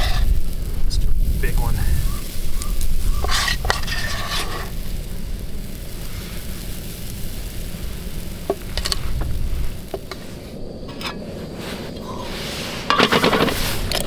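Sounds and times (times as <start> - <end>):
batter sizzling in a pan: 0.0 - 14.0.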